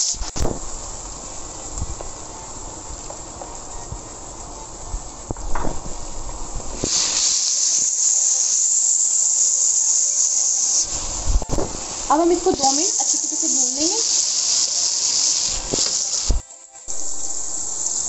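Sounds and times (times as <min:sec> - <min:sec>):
masala sizzling in hot oil: 0:00.0 - 0:18.0.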